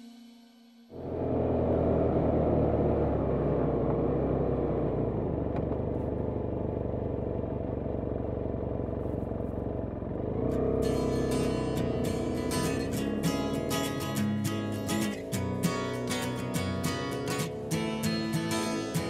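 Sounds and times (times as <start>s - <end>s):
motorcycle engine running: 0.9s - 19.0s.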